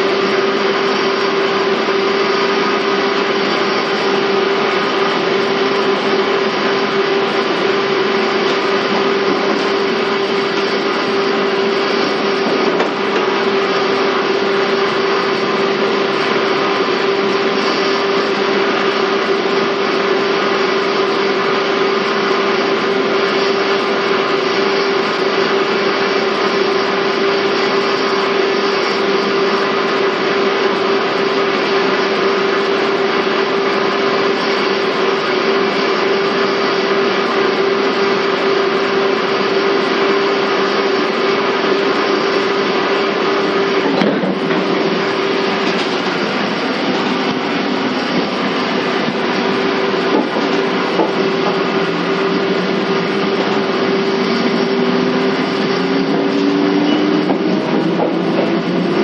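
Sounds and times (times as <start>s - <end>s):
train motor whine: 0.0s - 59.0s.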